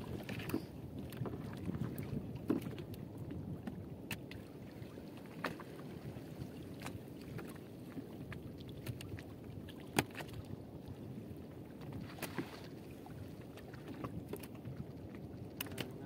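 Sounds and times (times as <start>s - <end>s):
wind and water washing: 0.0s - 16.0s.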